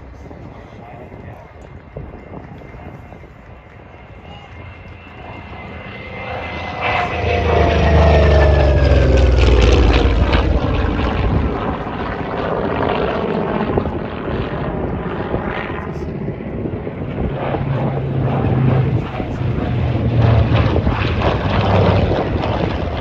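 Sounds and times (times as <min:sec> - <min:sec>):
radial piston engine passing overhead: 0:00.0 - 0:23.0
second aircraft engine hum: 0:00.0 - 0:23.0.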